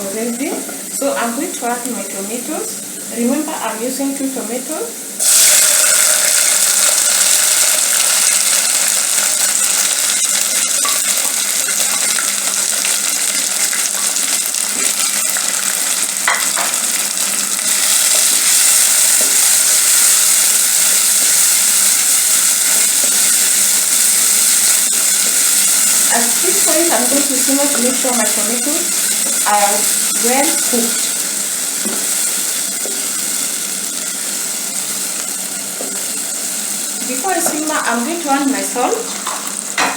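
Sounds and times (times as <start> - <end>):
vegetables sizzling in a pan: 0.0 - 39.9.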